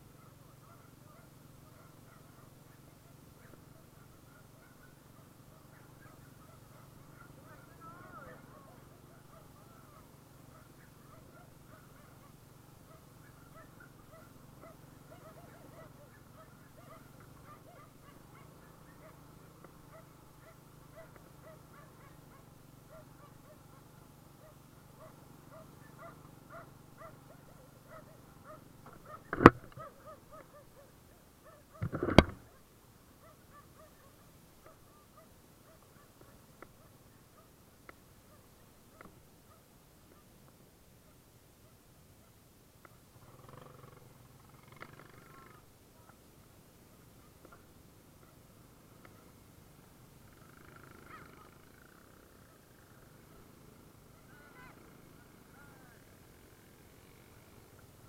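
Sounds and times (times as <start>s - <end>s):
muffled motorbike engine: 0.0s - 40.6s, 42.8s - 58.0s.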